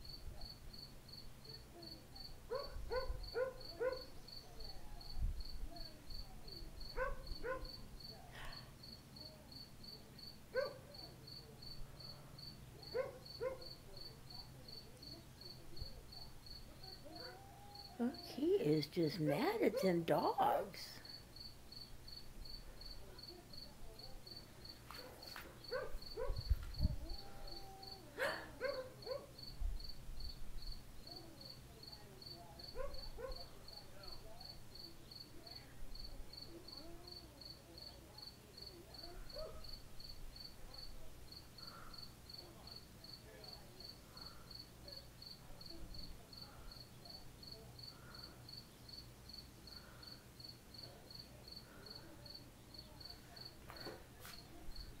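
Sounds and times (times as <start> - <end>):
cricket chirping: 0.0 - 18.2, 21.0 - 28.0, 28.6 - 38.0, 38.6 - 54.9.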